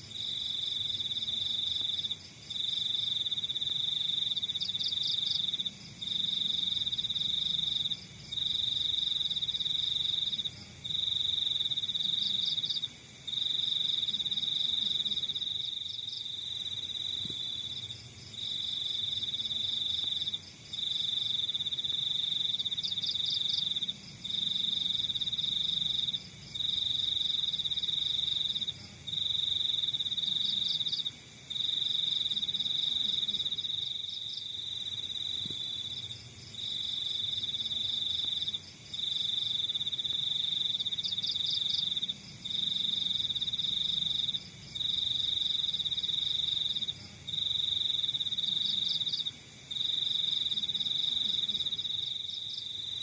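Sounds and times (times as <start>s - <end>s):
cricket trilling: 0.0s - 53.0s
faint rapid cricket chirping: 0.0s - 53.0s.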